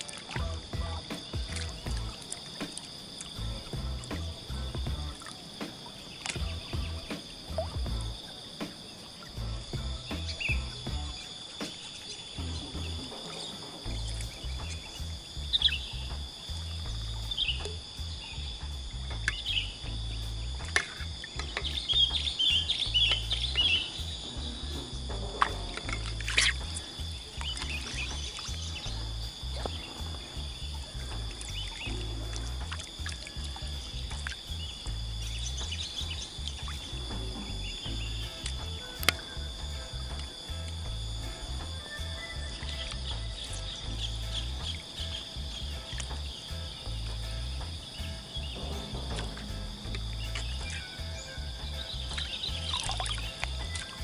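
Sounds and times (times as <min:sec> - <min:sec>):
background music with bass line: 0:00.0 - 0:02.4, 0:03.2 - 0:54.0
birds chirping: 0:00.0 - 0:54.0
high insect drone: 0:00.0 - 0:54.0
uneven low rumble: 0:00.4 - 0:02.3, 0:03.4 - 0:05.3, 0:06.4 - 0:08.2, 0:12.4 - 0:54.0.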